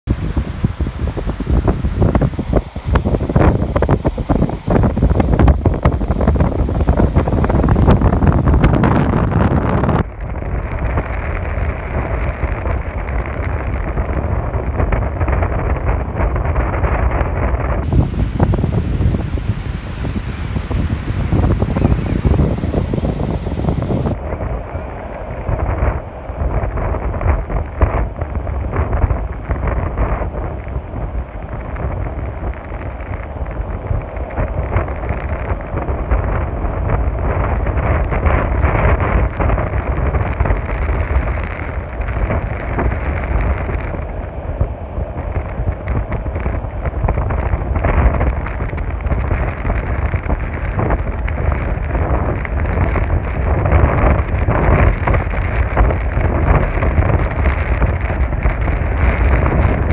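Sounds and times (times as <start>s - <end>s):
wind buffeting microphone: 0.0s - 59.9s
waves breaking on sand: 0.1s - 17.0s, 17.8s - 59.9s.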